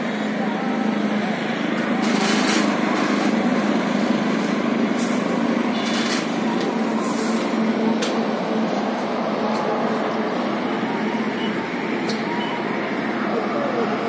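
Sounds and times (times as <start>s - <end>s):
highway traffic noise: 0.0s - 14.0s.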